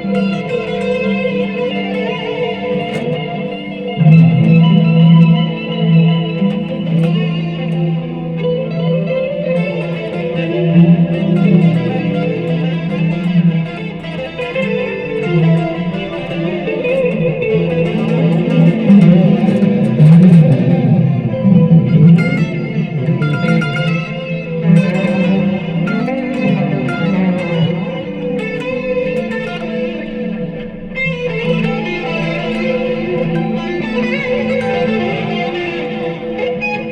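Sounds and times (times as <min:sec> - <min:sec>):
electric guitar melody: 0:00.0 - 0:36.9.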